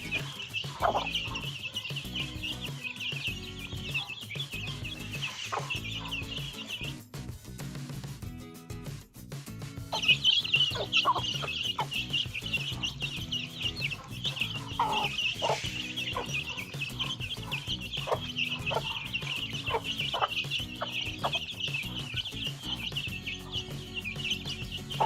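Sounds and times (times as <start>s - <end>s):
hen clucking: 0.0s - 6.9s, 9.9s - 25.0s
chicks peeping: 0.0s - 7.0s, 9.9s - 25.0s.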